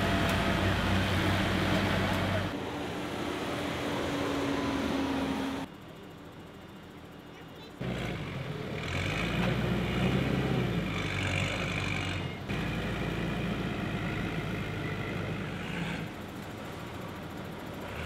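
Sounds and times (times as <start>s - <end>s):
forklift engine running: 0.0s - 7.1s, 7.8s - 18.0s.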